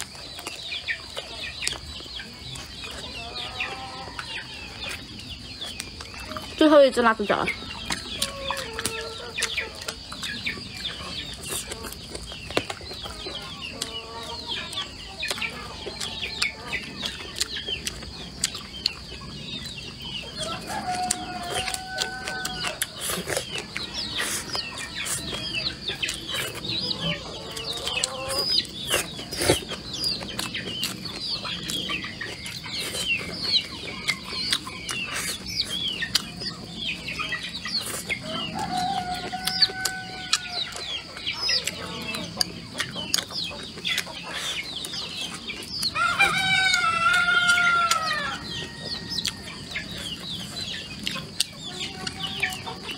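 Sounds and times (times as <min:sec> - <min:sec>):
chickens clucking: 0:00.0 - 0:52.9
eating sounds: 0:00.0 - 0:52.9.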